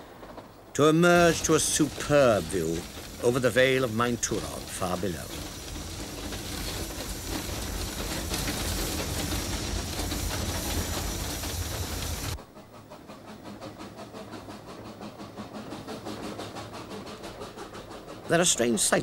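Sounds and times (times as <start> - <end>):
train wheels rumbling: 0.0 - 19.0
steam locomotive exhaust puffing: 1.0 - 18.7.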